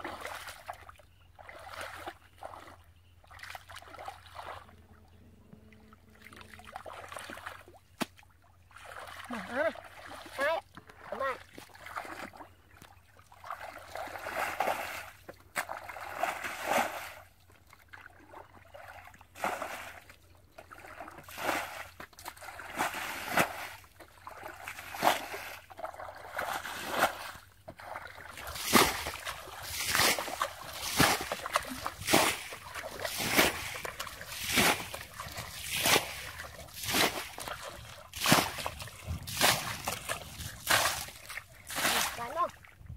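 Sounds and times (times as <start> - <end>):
bucket splashing muddy water: 0.0 - 4.8, 6.1 - 42.9.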